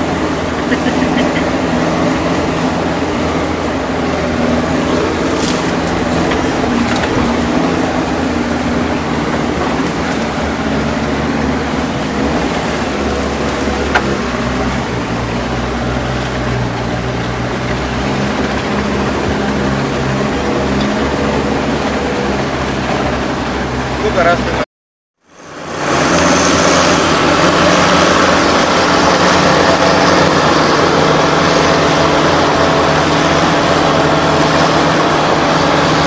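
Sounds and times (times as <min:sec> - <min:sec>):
tracked vehicle engine running: 0:00.0 - 0:24.6, 0:25.2 - 0:36.0.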